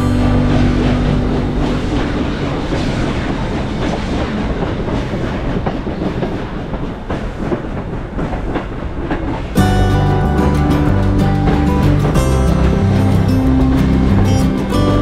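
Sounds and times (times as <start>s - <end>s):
train wheels clickety-clack: 0.0s - 15.0s.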